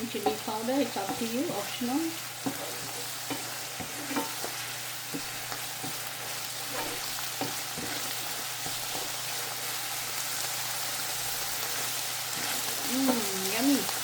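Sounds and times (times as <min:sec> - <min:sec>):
mushrooms sizzling in a pan: 0:00.0 - 0:14.0
utensil scraping a pan: 0:00.1 - 0:10.0, 0:11.4 - 0:13.3.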